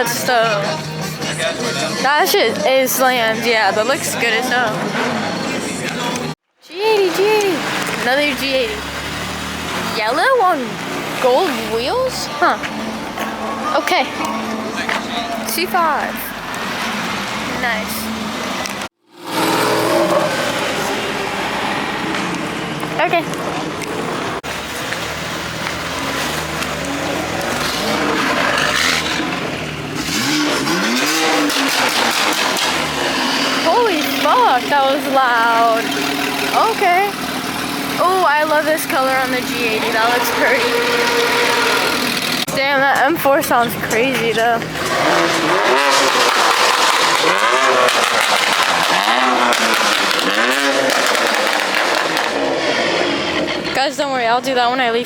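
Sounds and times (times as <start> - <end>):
sports car engine revving: 7.1 - 53.9.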